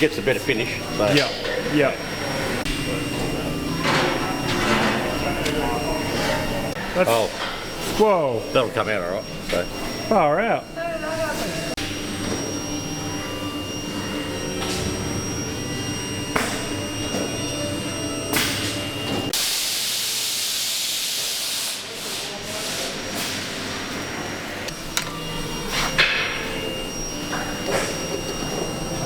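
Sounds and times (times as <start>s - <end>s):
workshop hum: 0.0s - 29.0s.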